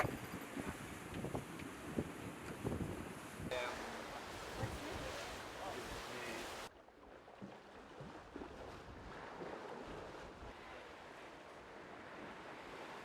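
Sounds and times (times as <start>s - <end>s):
sea water rushing: 0.0s - 13.0s
wind: 0.0s - 13.0s.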